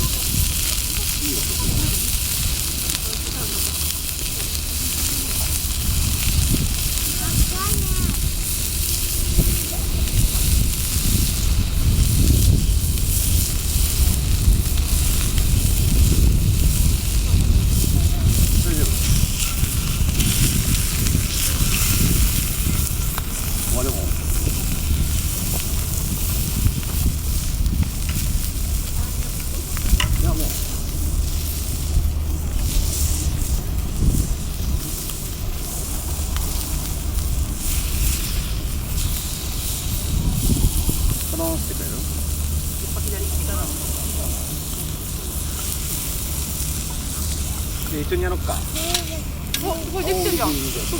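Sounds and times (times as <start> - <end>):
campfire burning and crackling: 0.0 - 50.9
wind rumble on microphone: 0.0 - 50.9.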